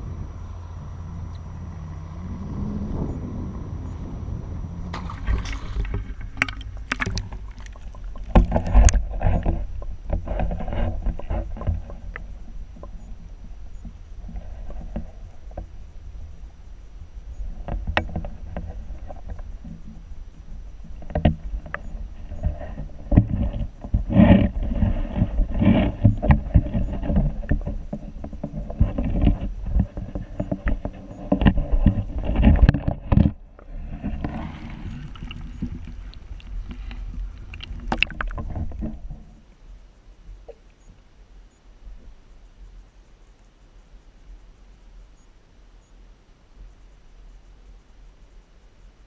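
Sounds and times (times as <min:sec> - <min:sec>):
muffled underwater water rumble: 0:00.0 - 0:43.1.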